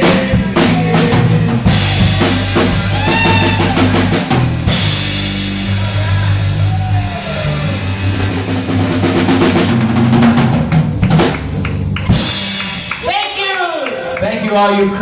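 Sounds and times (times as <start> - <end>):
held bass notes: 0.0 - 13.4
drum kit with cymbal wash: 0.0 - 13.8
live band playing: 0.0 - 15.0.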